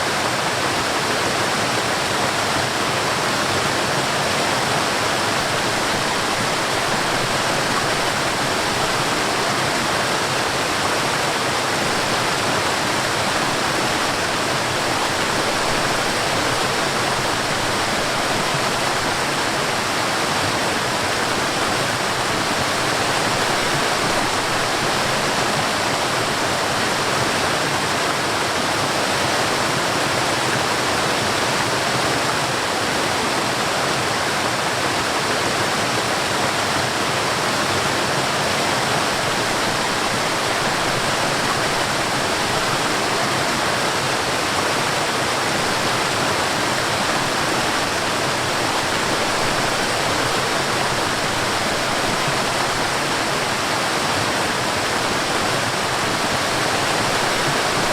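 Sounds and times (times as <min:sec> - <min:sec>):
water rushing over rocks: 0:00.0 - 0:57.9.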